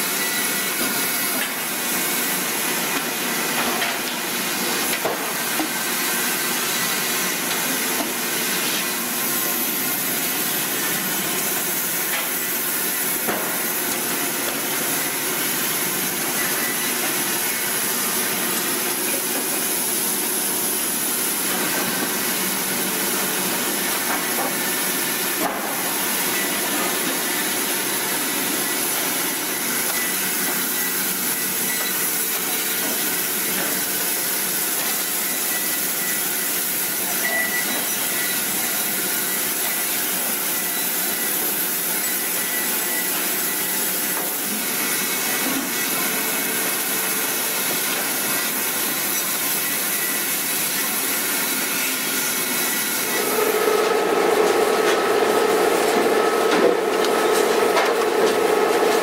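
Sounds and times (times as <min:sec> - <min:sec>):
sawmill machine noise with hiss: 0:00.0 - 0:59.0.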